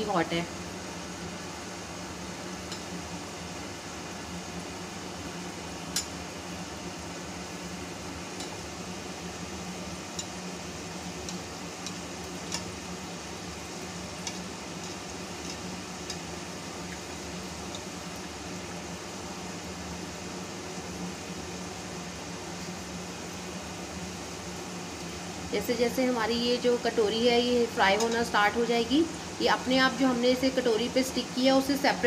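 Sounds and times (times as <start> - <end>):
oil sizzling: 0.0 - 32.0.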